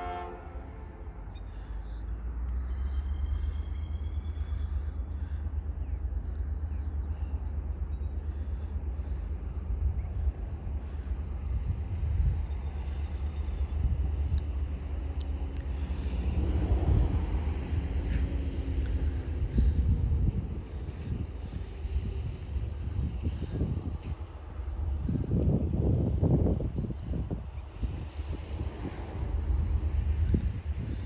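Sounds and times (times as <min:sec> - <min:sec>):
distant train hum and hiss: 0:00.0 - 0:31.0
wind buffeting microphone: 0:04.6 - 0:31.0.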